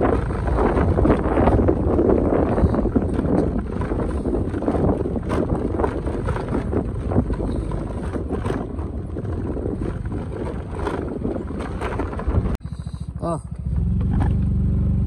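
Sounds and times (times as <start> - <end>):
wind on microphone: 0.0 - 12.9
motorcycle engine rumble: 0.0 - 15.0.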